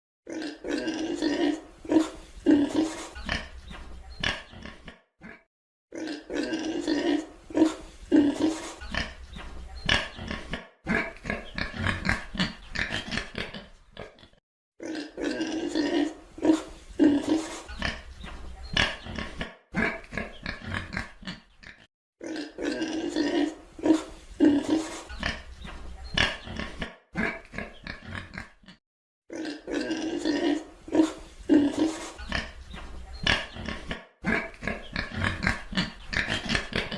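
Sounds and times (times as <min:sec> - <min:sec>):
pig grunting: 0:00.3 - 0:36.9.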